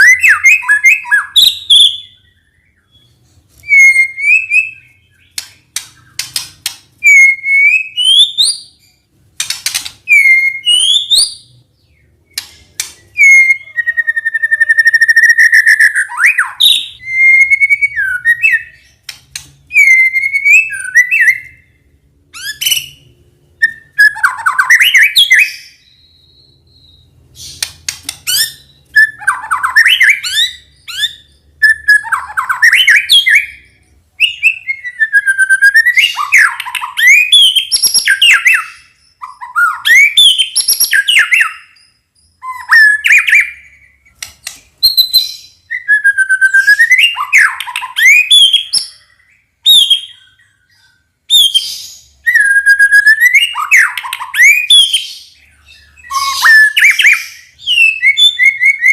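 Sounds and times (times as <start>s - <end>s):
bird singing whistled phrases: 0.0s - 5.4s, 7.0s - 8.9s, 10.1s - 11.5s, 12.3s - 18.9s, 19.7s - 21.8s, 23.6s - 44.2s, 44.8s - 58.9s.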